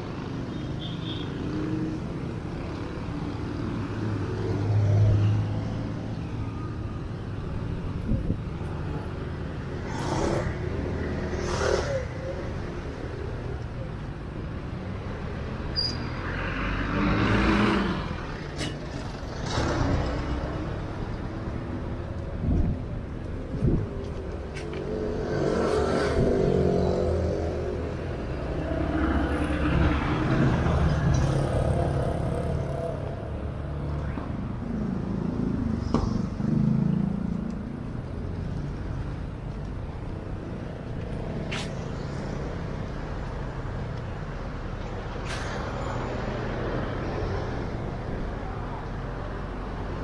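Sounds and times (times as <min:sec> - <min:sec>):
vehicles passing: 0:00.0 - 0:50.0.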